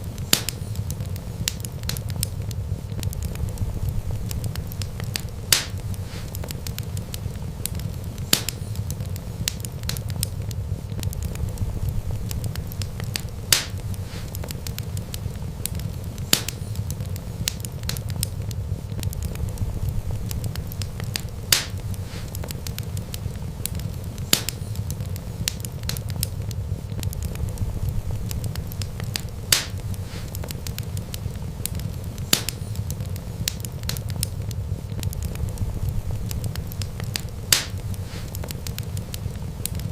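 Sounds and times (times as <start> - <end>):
low rumble of flames: 0.0 - 39.9
sharp pops from burning wood: 0.0 - 39.9
wood fire crackling: 0.0 - 39.9.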